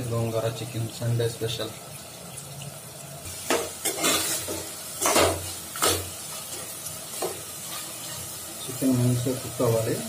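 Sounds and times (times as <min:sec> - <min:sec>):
low sizzle of frying: 0:00.0 - 0:10.0.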